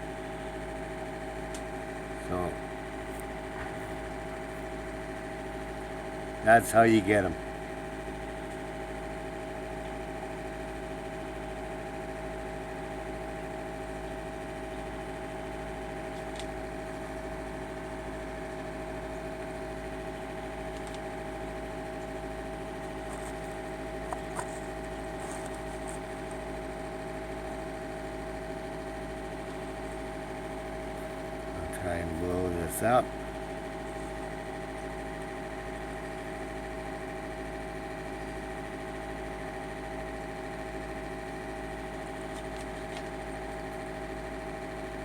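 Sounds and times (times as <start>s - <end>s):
steady mechanical hum: 0.0s - 45.0s.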